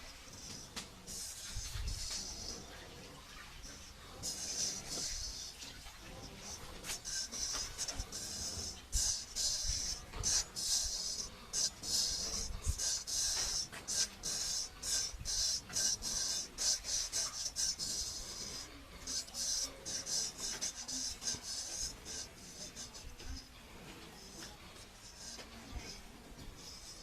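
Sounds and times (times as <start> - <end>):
straight razor scraping stubble: 0.0 - 2.8, 3.8 - 27.0.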